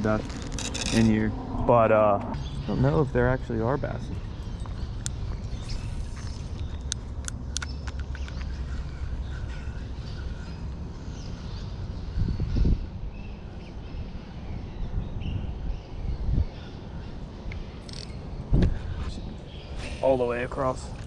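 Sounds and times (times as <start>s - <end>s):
birds calling: 0.0s - 21.0s
steady low rumble: 0.0s - 21.0s.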